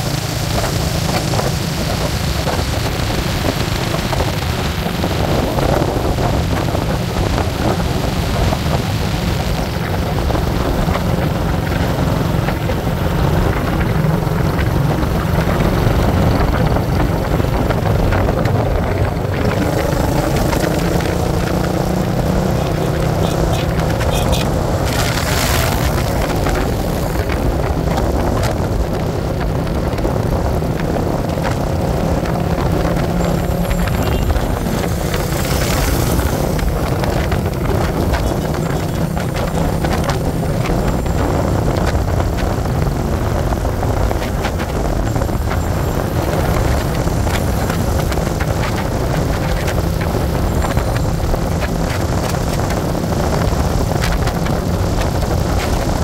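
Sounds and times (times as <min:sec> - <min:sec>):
vehicle running rumble: 0:00.0 - 0:56.0.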